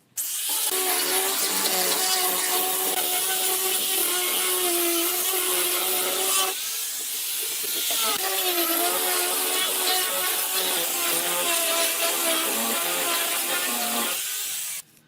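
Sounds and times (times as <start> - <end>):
power tool whining on wood: 0.2 - 14.8.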